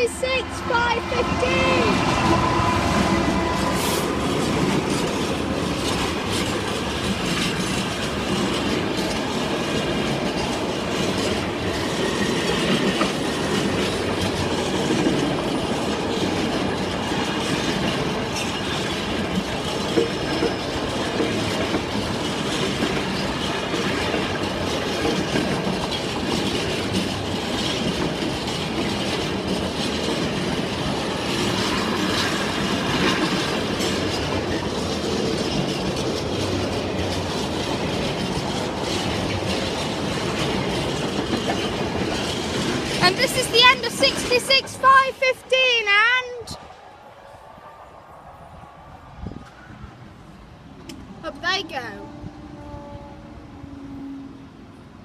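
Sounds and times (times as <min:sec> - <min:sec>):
freight train wheels clattering: 0:00.0 - 0:46.6.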